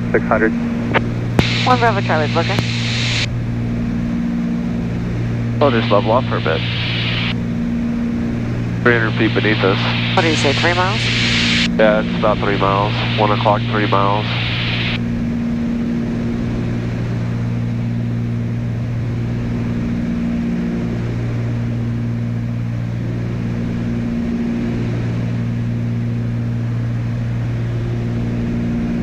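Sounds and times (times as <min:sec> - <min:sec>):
aircraft engines droning: 0:00.0 - 0:29.0.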